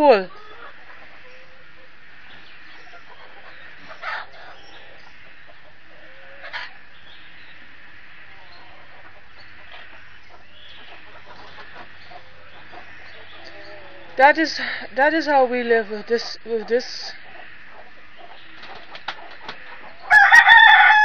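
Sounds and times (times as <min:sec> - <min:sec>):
chickens clucking: 0:00.0 - 0:21.0
loud chicken calls: 0:00.0 - 0:21.0.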